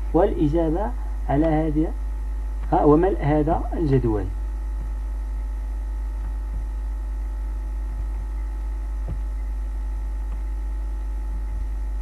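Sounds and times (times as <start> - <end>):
faint steady tones: 0.0 - 12.0
low electrical hum: 0.0 - 12.0.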